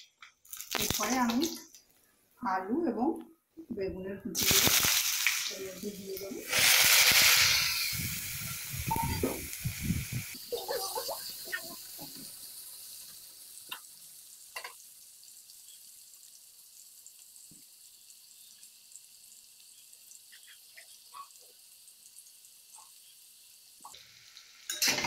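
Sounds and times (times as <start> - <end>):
vegetables sizzling in hot oil: 0.4 - 1.8, 4.4 - 25.0.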